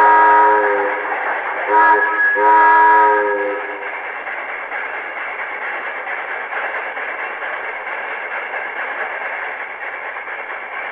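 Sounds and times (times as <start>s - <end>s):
toy train whirring rattle on rails: 0.0s - 10.9s.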